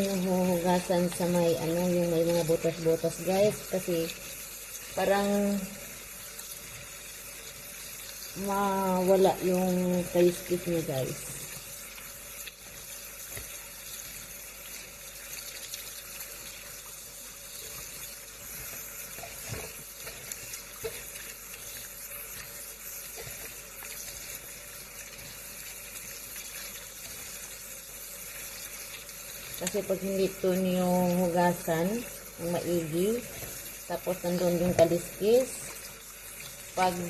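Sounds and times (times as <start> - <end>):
running water hiss: 0.0 - 37.0.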